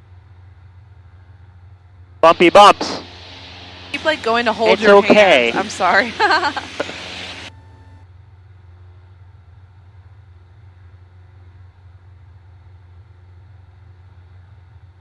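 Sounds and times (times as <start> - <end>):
propeller aircraft engine drone: 0.1 - 15.0.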